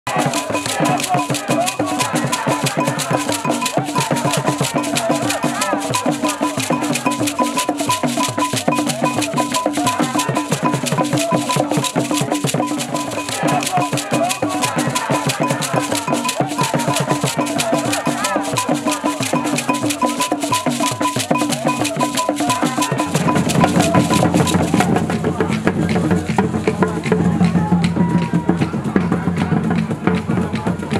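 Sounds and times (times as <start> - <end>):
rattle and drum percussion: 0.1 - 30.9.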